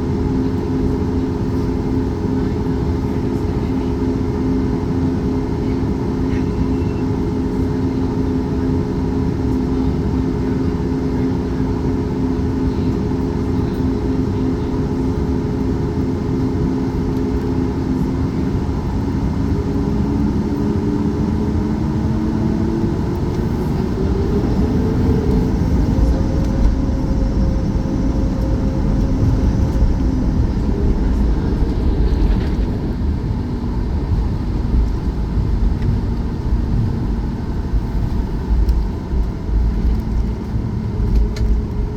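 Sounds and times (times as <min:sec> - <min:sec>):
aircraft engines spooling up: 0:00.0 - 0:41.9
low rumble of takeoff roll: 0:00.0 - 0:41.9.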